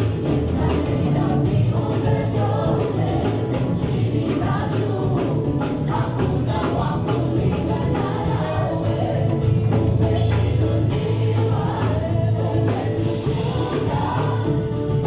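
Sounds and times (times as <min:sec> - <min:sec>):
band with bass and beat: 0:00.0 - 0:15.0
choir singing gospel music: 0:00.0 - 0:15.0.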